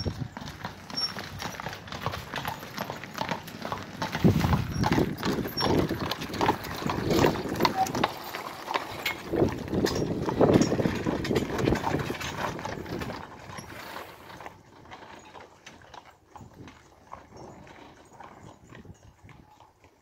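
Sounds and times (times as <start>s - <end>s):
cart rumbling: 0.0s - 19.4s
horse hooves on pavement: 0.0s - 20.0s.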